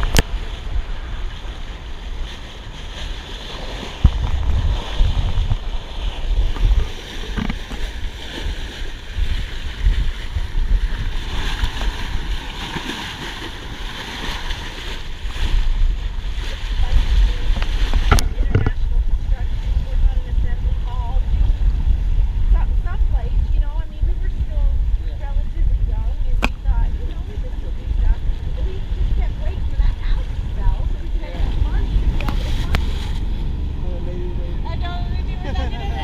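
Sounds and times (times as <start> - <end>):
water rushing past boat: 0.0 - 36.0
wind buffeting microphone: 0.0 - 36.0.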